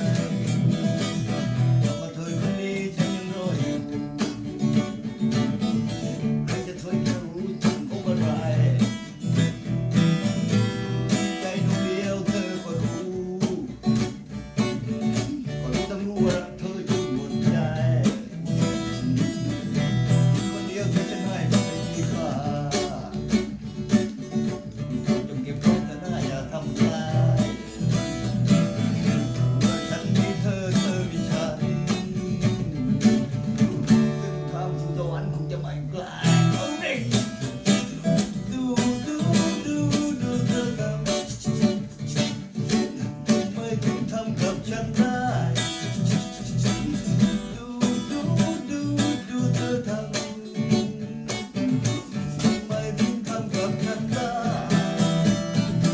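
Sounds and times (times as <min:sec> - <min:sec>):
acoustic guitar strumming: 0:00.0 - 0:55.9
person singing: 0:00.0 - 0:55.9.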